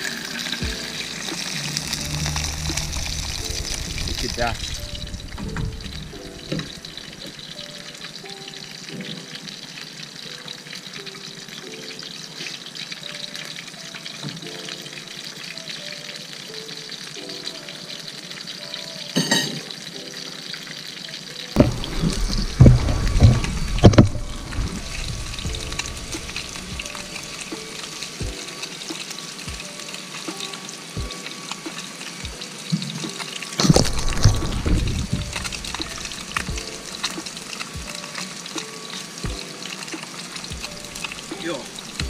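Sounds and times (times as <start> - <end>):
fish sizzling in a pan: 0.0 - 42.0
soft background music: 0.0 - 42.0.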